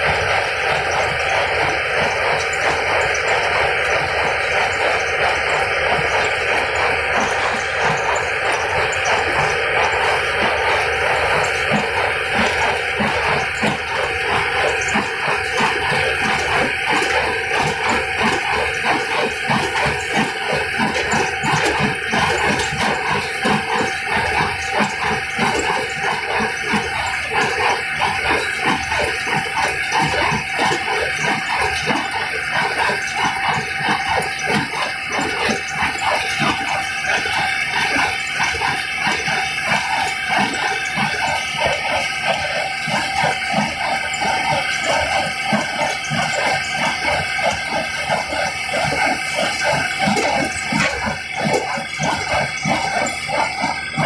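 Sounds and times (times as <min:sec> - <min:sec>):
mechanical whine: 0:00.0 - 0:54.0.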